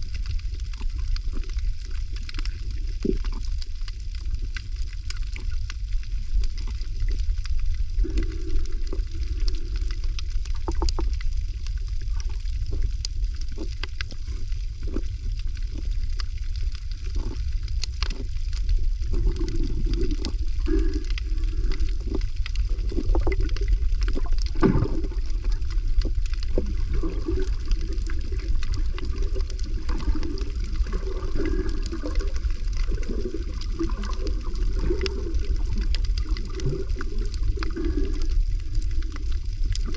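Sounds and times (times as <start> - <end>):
deep rumble: 0.0 - 39.9
water gurgling and sloshing: 0.0 - 39.9.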